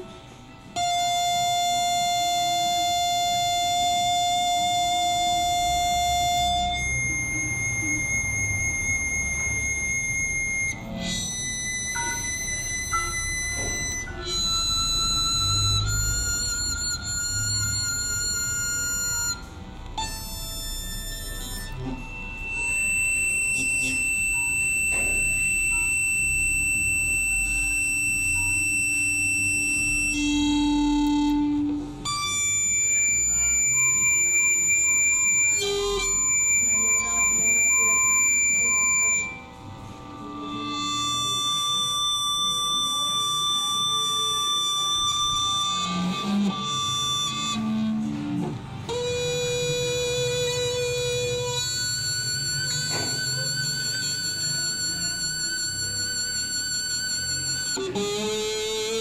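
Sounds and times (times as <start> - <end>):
electric guitar sustained high tones: 0.0 - 59.0.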